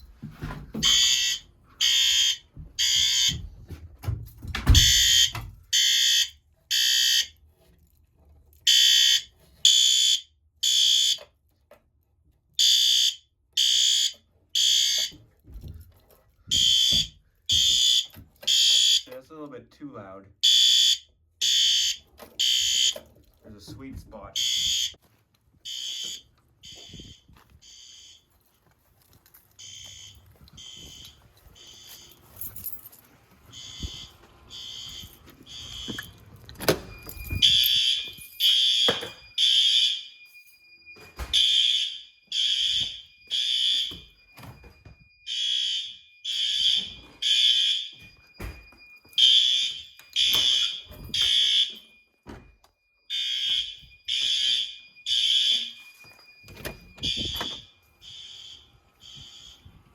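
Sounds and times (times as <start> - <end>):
fire alarm horns: 0.7 - 3.7, 4.7 - 7.6, 8.6 - 11.4, 12.6 - 15.3, 16.5 - 19.4, 20.4 - 28.4, 29.6 - 59.9.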